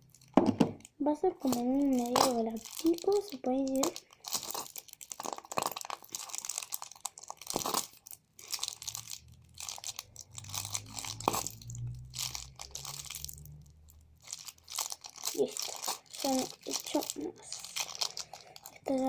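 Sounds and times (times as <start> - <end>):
plastic bottle crinkling: 0.0 - 19.0.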